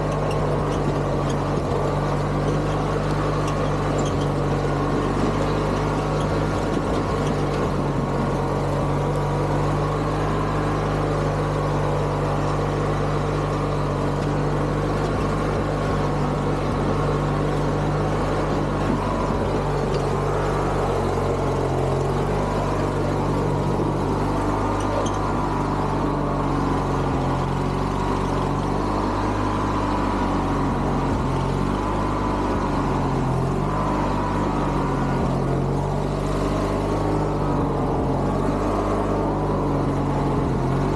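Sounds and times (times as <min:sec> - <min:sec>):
garden tractor engine running: 0:00.0 - 0:40.9.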